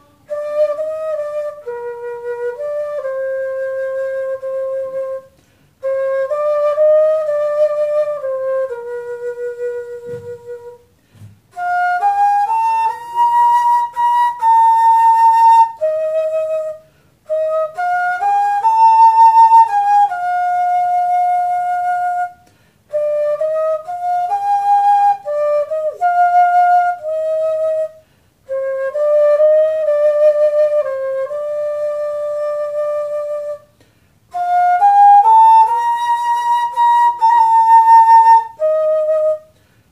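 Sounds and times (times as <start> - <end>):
flute melody: 0.0 - 39.7.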